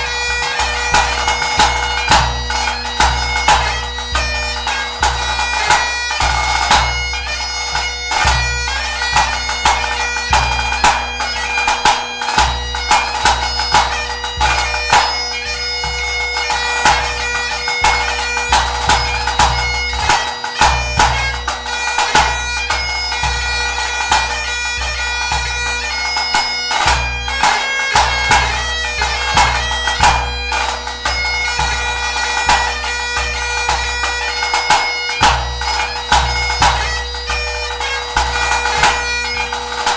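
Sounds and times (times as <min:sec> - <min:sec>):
bagpipe playing a tune: 0:00.0 - 0:39.9.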